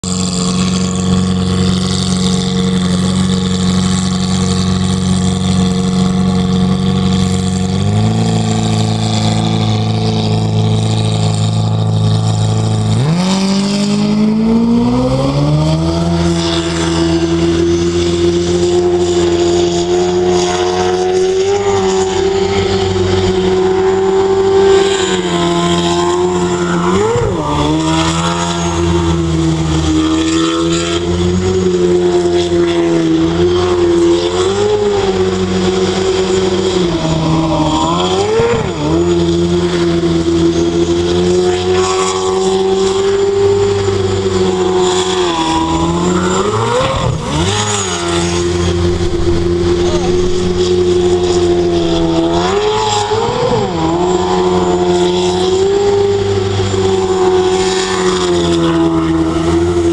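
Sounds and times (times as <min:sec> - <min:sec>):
boat engine idling and revving: 0:00.0 - 0:59.9.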